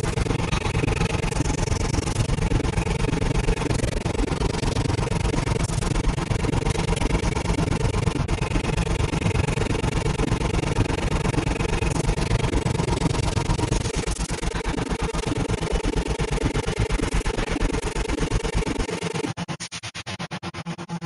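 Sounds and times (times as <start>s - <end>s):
mechanical drone with low flutter: 0.0s - 21.0s.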